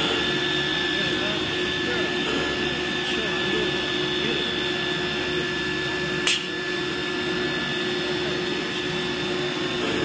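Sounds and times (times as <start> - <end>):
cnc router whining: 0.0 - 10.0
machine hum: 0.0 - 10.0.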